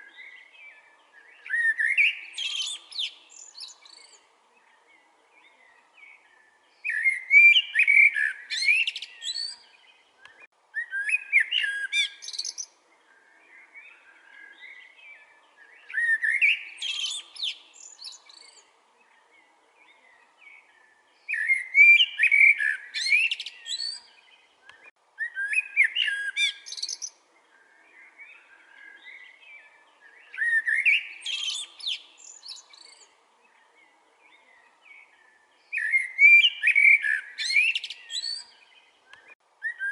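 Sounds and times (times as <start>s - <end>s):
blackbird singing: 0.0s - 39.9s.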